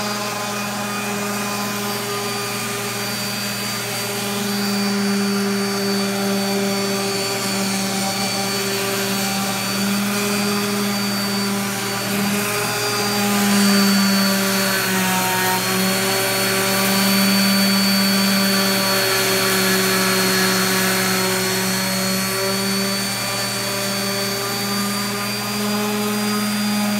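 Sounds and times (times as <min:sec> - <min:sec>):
orbital sander whining on wood: 0:00.0 - 0:26.9.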